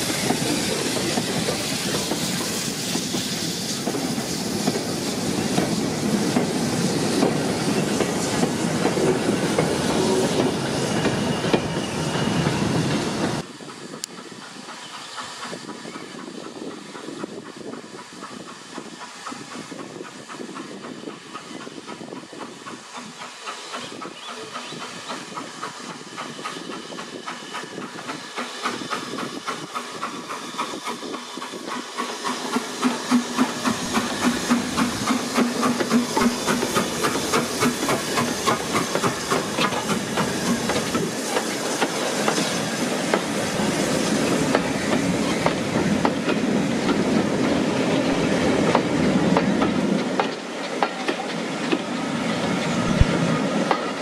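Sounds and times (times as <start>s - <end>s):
steam hissing: 0.0s - 54.0s
steam locomotive passing: 0.0s - 54.0s
train wheels clickety-clack: 0.0s - 54.0s.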